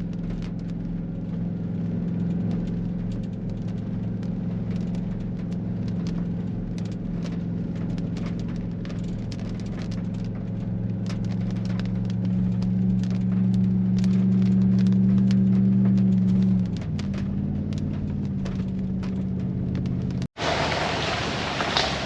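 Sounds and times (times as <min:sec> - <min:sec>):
crackling ticks: 0:00.0 - 0:20.3
vehicle engine hum: 0:00.0 - 0:22.0.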